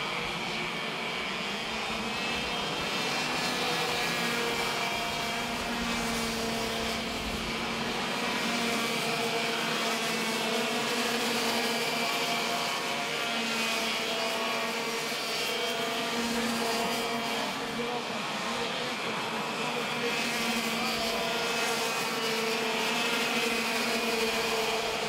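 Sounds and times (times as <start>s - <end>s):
go-kart engines droning: 0.0s - 25.0s.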